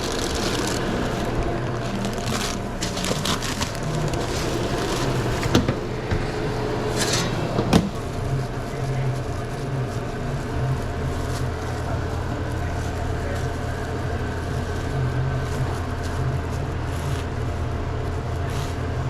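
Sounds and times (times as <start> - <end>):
kitchen equipment humming: 0.0 - 19.0.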